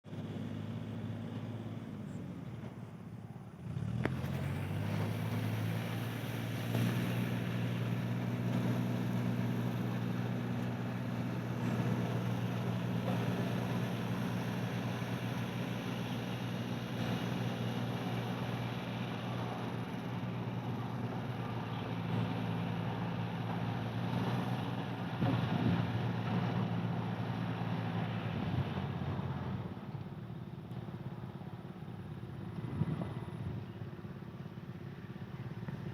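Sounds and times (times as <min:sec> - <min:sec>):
engine running: 0:00.0 - 0:35.9.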